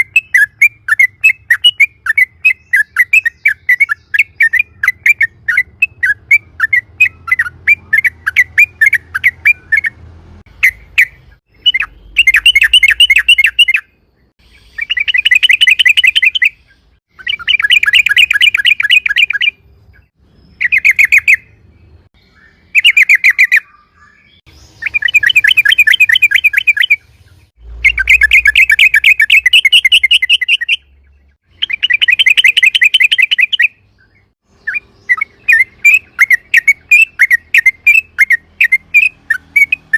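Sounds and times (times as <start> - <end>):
bulbul singing rolling trills: 0.0 - 39.9.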